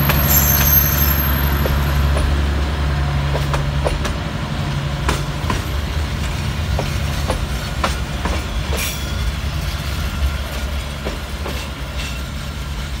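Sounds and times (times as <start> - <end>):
train wheels clacking over rail joints: 0.0 - 4.3, 5.0 - 13.0
low rumble of rolling train: 0.0 - 13.0.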